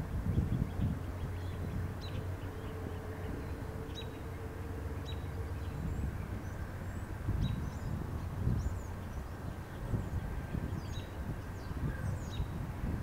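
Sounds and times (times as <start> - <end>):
distant engine rumble: 0.0 - 13.0
faint hum: 0.0 - 13.0.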